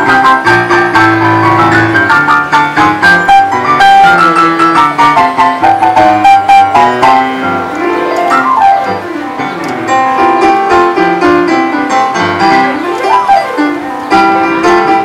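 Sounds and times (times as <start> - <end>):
fast piano playing: 0.0 - 15.0.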